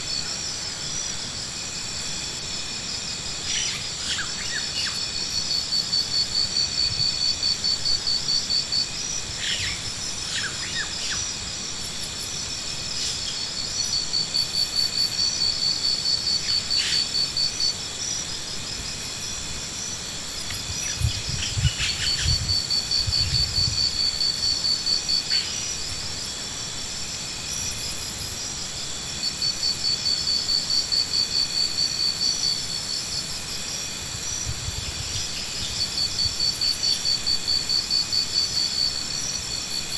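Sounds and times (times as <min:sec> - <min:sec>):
insects humming: 0:00.0 - 0:39.9
insects trilling: 0:00.0 - 0:39.9.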